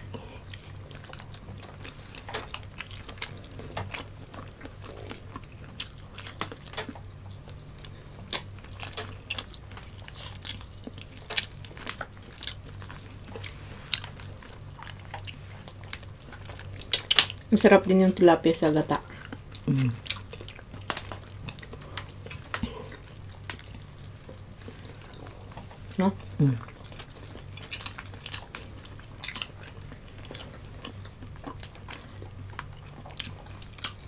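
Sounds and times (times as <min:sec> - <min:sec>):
people chewing: 0:00.0 - 0:34.0.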